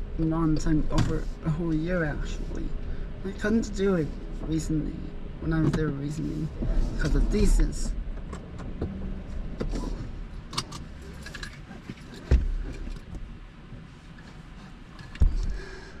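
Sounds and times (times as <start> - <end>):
low cabin hum: 0.0 - 16.0.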